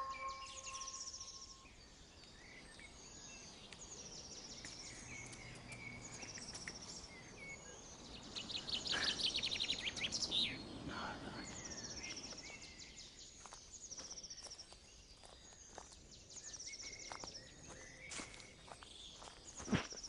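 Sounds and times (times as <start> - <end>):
birds chirping and twittering: 0.0 - 20.0.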